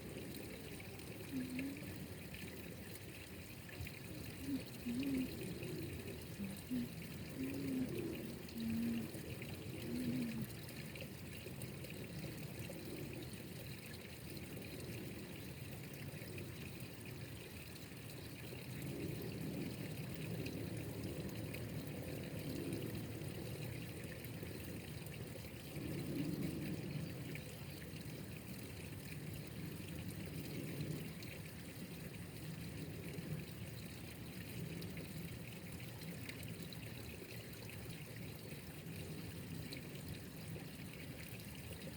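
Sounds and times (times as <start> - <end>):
water trickling and pouring: 0.0 - 41.9.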